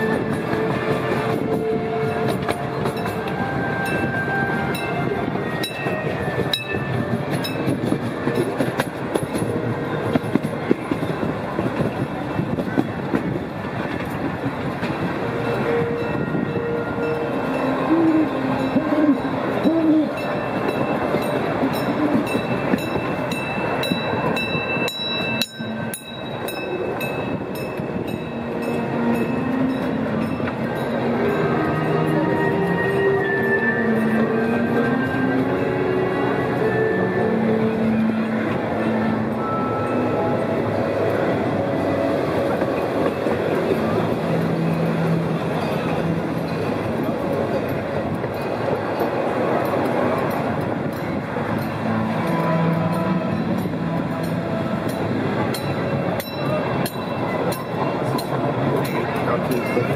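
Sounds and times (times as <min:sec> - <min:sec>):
rhythmic clicking over rails: 0:00.0 - 0:59.9
train wheels rumbling: 0:00.0 - 0:59.9.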